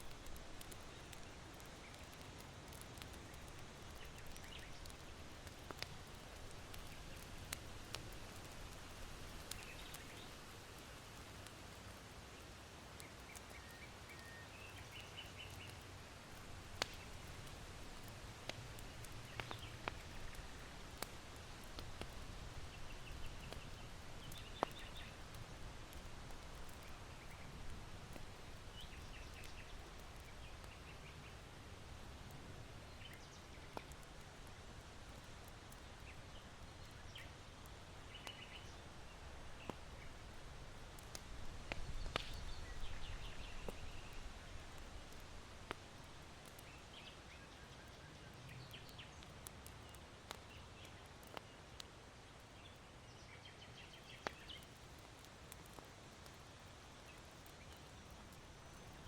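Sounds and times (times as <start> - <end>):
small birds chirping: 0.0 - 11.3, 12.3 - 31.6, 32.2 - 59.0
charcoal embers crackling: 0.0 - 59.0.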